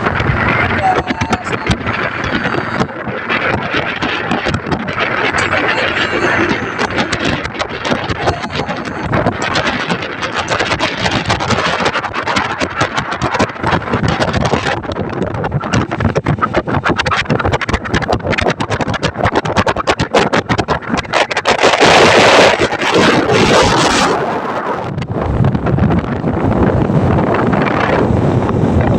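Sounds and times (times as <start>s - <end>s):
boat engine underway: 0.0s - 28.9s
wind buffeting microphone: 0.0s - 28.9s.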